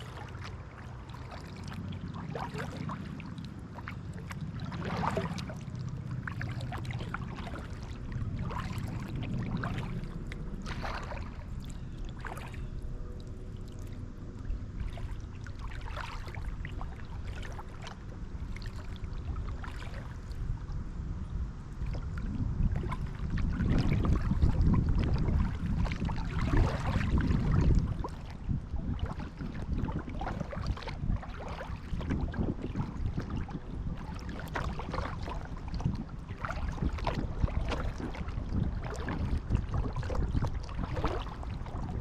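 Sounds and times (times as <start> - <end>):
paddle splashing in water: 0.0 - 20.7, 21.7 - 42.0
water trickling off paddle: 0.0 - 20.7, 21.7 - 42.0
steady low rumble: 0.0 - 42.0.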